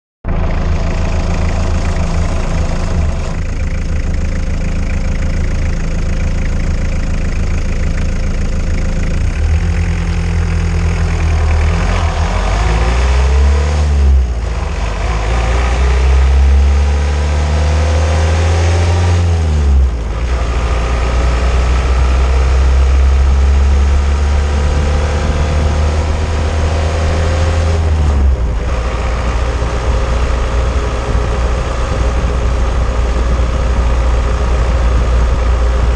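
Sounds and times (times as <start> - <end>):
car engine rumbling: 0.2 - 35.9
road noise: 0.2 - 35.9.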